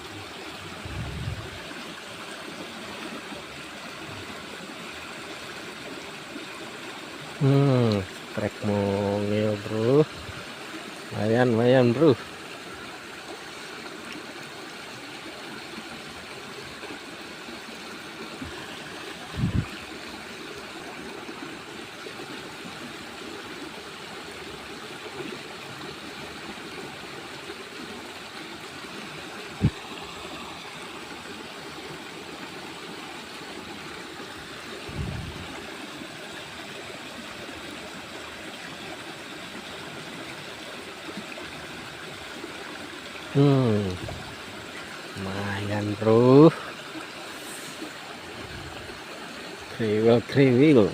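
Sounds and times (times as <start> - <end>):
flowing water rushing: 0.0 - 50.9.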